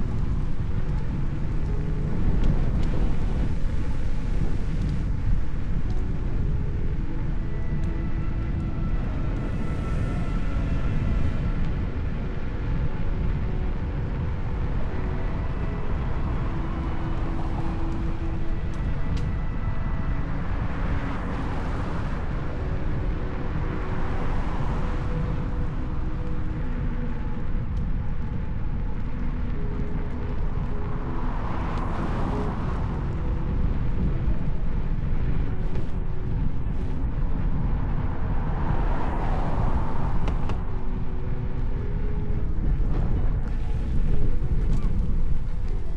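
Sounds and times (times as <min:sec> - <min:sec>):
faint humming tones: 0:00.0 - 0:45.9
faint thin whine: 0:00.0 - 0:45.9
road rumble: 0:00.0 - 0:45.9
wind rush on microphone: 0:00.0 - 0:45.9.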